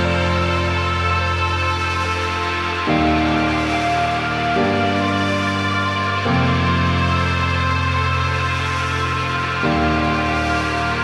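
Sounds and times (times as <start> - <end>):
background music of held chords: 0.0 - 11.0.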